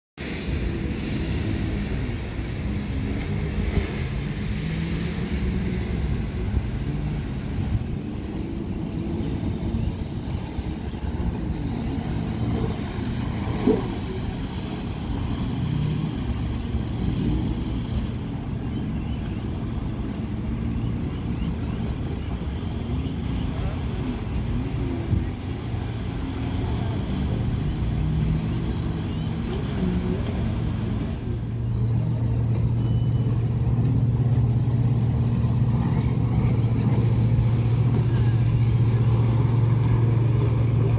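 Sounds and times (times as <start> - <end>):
jet ski engines whining: 0.2 - 40.9
steady low rumble: 0.2 - 40.9.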